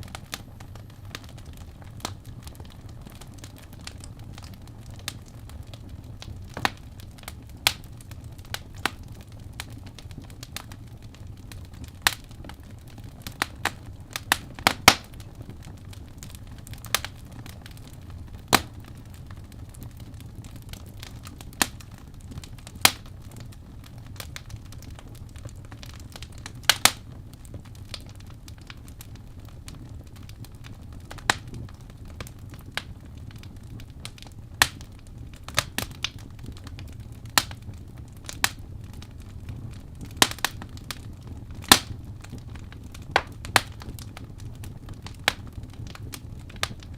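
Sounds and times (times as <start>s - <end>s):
logs crackling and popping: 0.0s - 46.9s
low rumble of flames: 0.0s - 46.9s.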